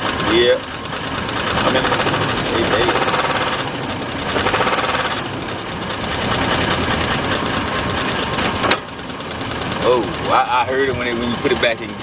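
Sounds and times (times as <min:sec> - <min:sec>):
engine revving with ticking knock: 0:00.0 - 0:12.0.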